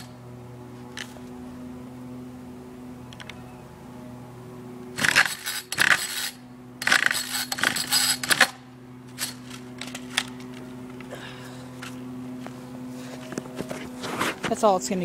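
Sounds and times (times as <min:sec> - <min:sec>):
recoil starter rattling whirr: 0:00.0 - 0:15.0.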